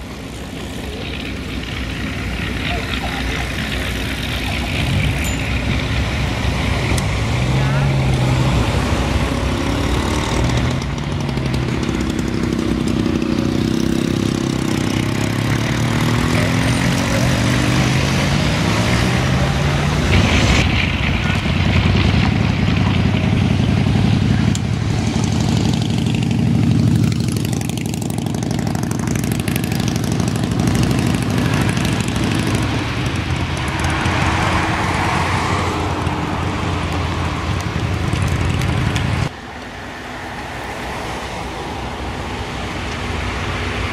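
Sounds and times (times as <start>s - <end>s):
propeller plane engines droning: 0.0s - 43.9s.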